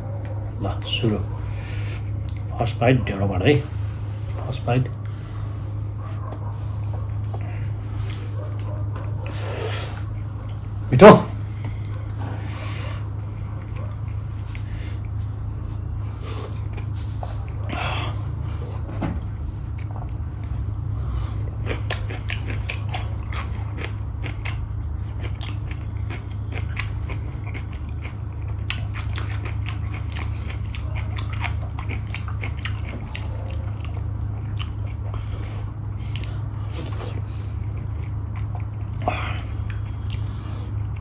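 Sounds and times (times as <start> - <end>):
steady low hum: 0.0 - 41.0
person chewing and eating: 6.2 - 41.0.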